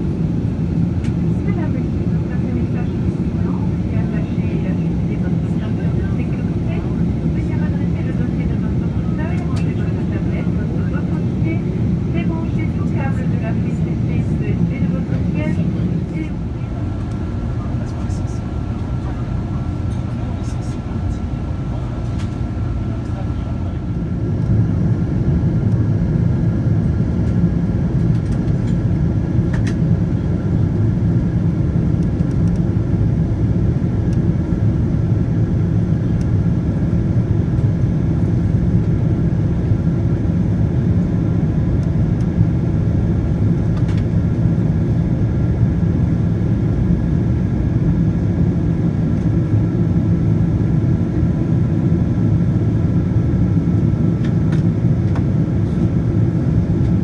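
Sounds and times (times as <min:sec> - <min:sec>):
airplane cabin engine rumble: 0:00.0 - 0:57.0
faint steady whine: 0:00.0 - 0:57.0.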